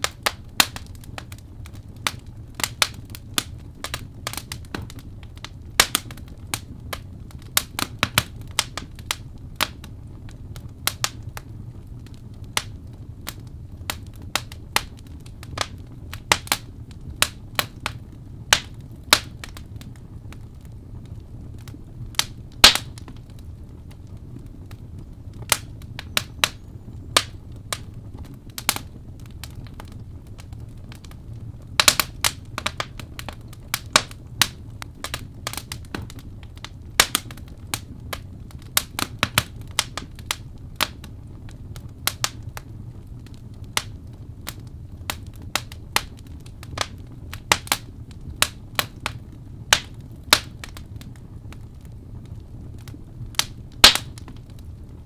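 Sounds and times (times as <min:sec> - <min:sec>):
burning wood popping and snapping: 0:00.0 - 0:55.0
low steady rumble: 0:00.0 - 0:55.0.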